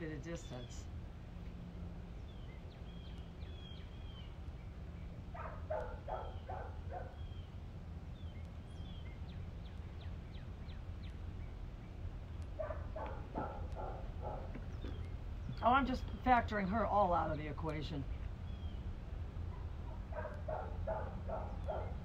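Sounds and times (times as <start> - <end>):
low background rumble: 0.0 - 22.0
small birds chirping: 0.0 - 22.0.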